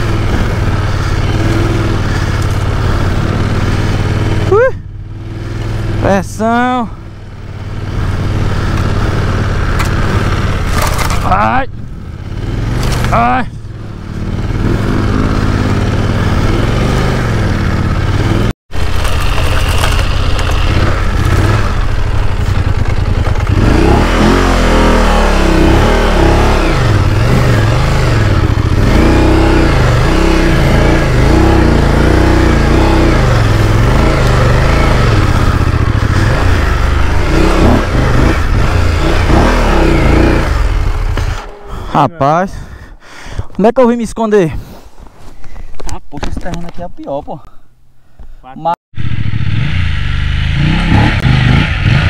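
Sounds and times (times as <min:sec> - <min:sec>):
off-road motorcycle engine revving: 0:00.0 - 0:42.7, 0:48.9 - 0:52.0.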